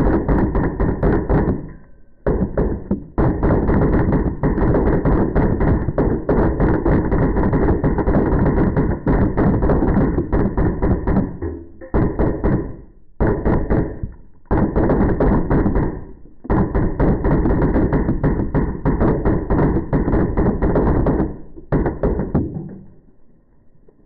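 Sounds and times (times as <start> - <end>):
bb gun firing rapid bursts: 0.0 - 22.6.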